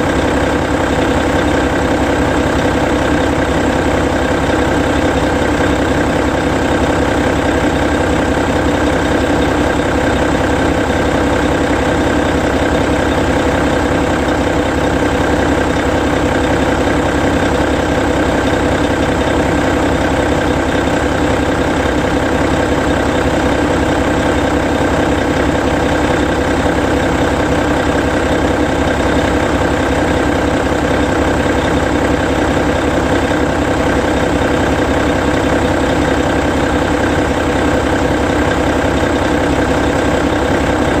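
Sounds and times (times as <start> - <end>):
diesel bus engine idling: 0.0 - 41.0.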